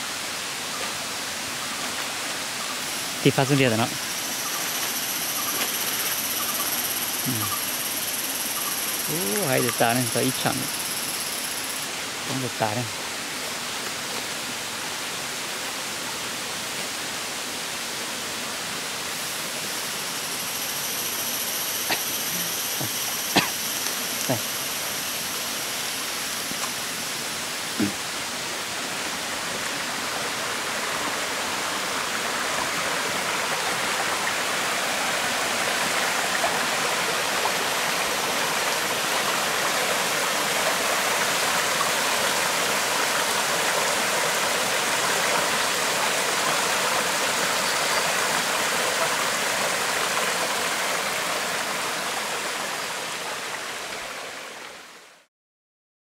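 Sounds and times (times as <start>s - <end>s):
stream splashing over rocks: 0.0s - 7.5s, 8.8s - 10.8s, 18.9s - 54.9s.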